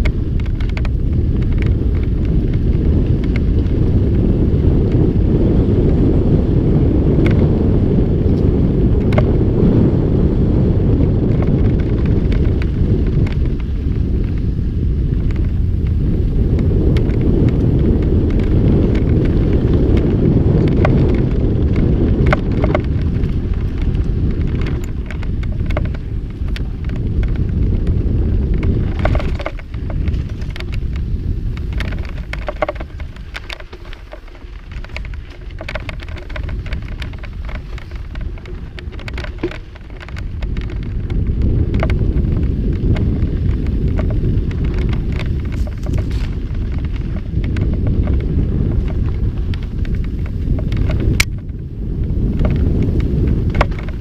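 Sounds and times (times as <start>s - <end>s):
bike clicks and rattles: 0.0s - 54.0s
bike tyres rolling on dirt trail: 0.0s - 54.0s
wind buffeting microphone: 0.0s - 54.0s.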